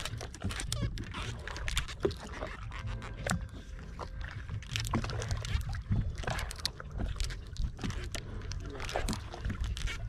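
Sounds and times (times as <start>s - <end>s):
small waves lapping against boat: 0.0s - 10.0s.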